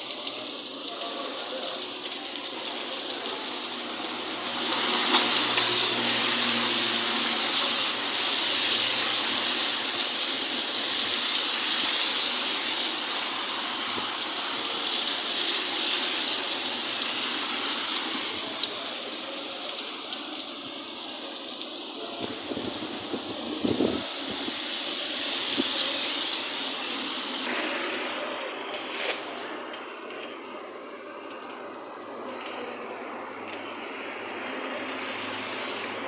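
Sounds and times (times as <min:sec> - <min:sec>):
storm water rushing: 0:03.5 - 0:19.0, 0:21.8 - 0:36.0.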